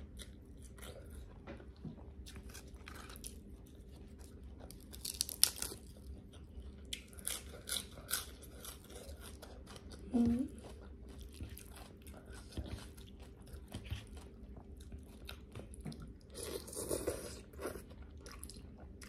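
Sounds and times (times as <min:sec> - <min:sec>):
chewing crunchy food: 0:00.0 - 0:19.0.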